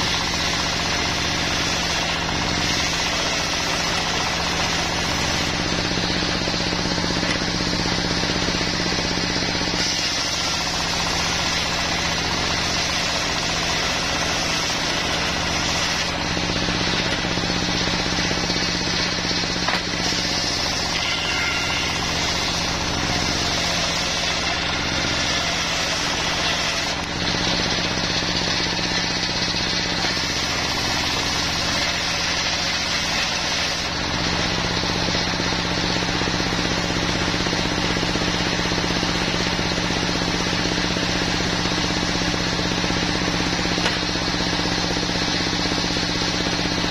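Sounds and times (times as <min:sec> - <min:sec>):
saw blade cutting log: 0:00.0 - 0:46.9
sawmill engine running: 0:00.0 - 0:46.9.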